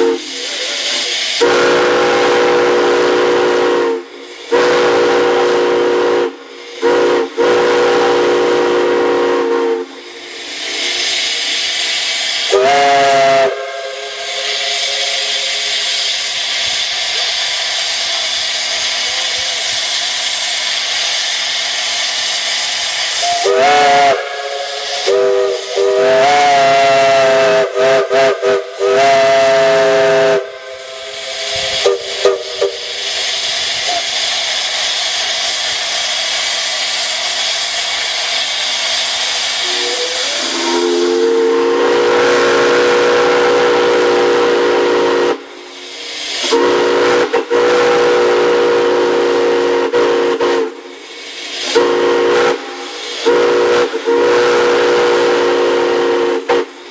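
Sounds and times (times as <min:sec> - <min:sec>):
steam locomotive whistle blasts: 0:00.0 - 0:00.4, 0:01.2 - 0:56.9
hiss of escaping steam: 0:00.0 - 0:56.9.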